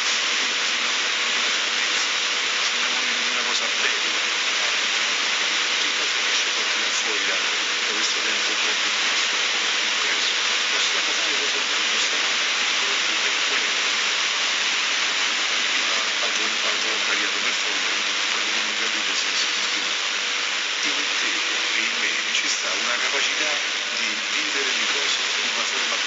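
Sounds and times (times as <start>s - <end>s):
loud steady hiss: 0.0s - 26.0s.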